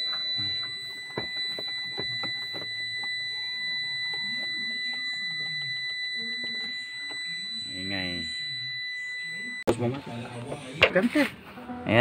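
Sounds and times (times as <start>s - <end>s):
high-pitched warning buzzer: 0.0s - 9.8s.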